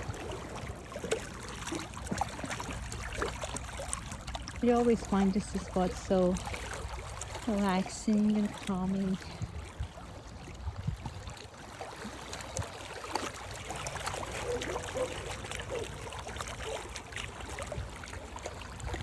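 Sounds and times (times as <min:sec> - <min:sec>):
lake water lapping: 0:00.0 - 0:19.0.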